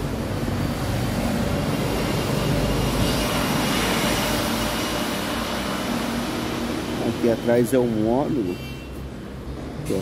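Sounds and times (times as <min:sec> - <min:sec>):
fan running with air rush: 0:00.0 - 0:08.0.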